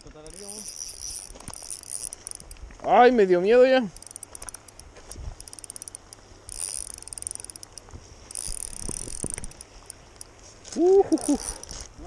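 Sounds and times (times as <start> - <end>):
fishing reel clicking: 0.2 - 2.6, 3.6 - 10.4, 11.2 - 12.0.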